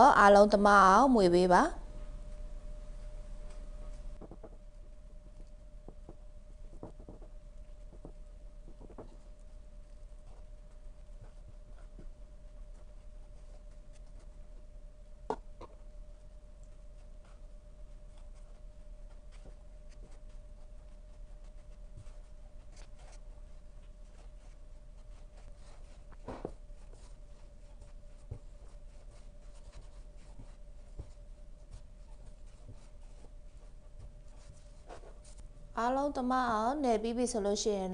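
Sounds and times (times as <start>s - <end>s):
steady hum: 0.0s - 37.9s.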